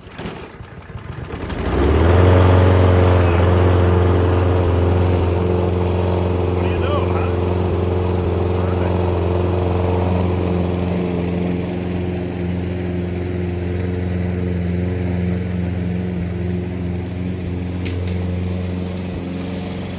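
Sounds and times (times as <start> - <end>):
lawn mower engine running: 0.0 - 19.9.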